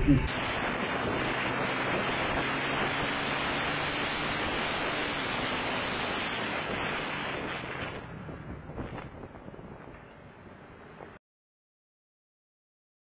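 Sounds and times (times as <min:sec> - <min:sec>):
wind rushing over microphone: 0:00.0 - 0:11.2.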